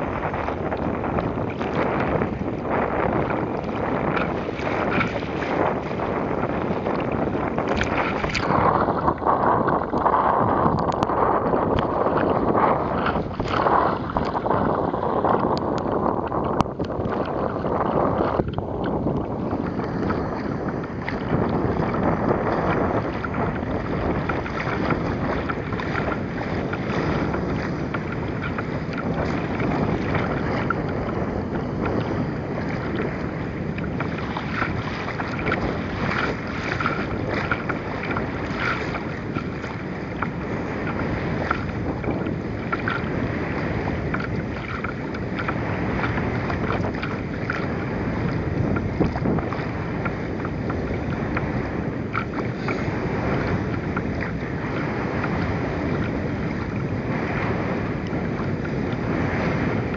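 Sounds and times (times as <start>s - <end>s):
water lapping against a boat: 0.0s - 59.9s
wind buffeting microphone: 0.0s - 59.9s.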